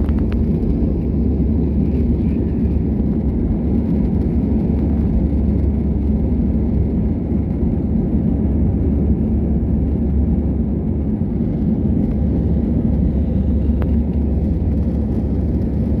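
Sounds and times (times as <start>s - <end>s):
airliner engines rumbling in cabin: 0.0s - 16.0s.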